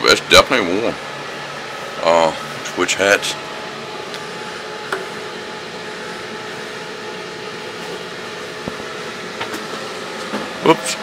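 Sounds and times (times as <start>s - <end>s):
fans whirring: 0.0s - 11.0s.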